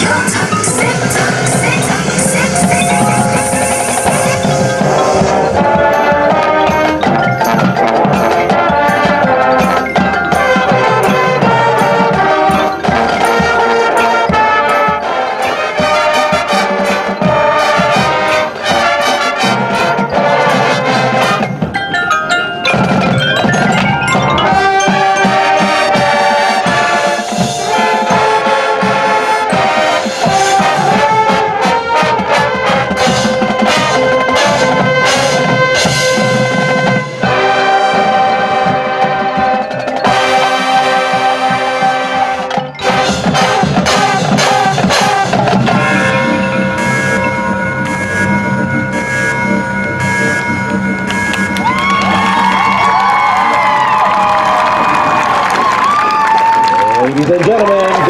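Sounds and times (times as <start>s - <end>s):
brass horns playing: 0.0s - 21.8s, 23.0s - 58.0s
drums: 0.0s - 58.0s
marimba and xylophone: 0.0s - 58.0s.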